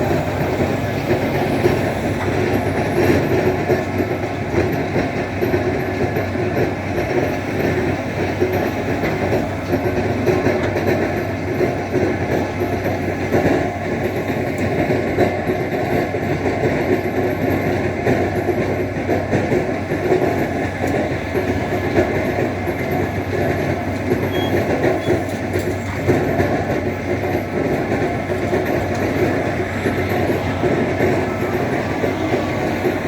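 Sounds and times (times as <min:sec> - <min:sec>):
tractor loader engine running: 0:00.0 - 0:33.0.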